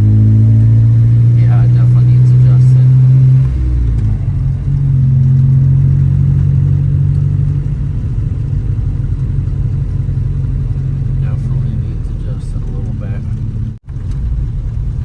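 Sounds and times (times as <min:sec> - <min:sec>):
car engine pulling through gears: 0:00.0 - 0:15.0.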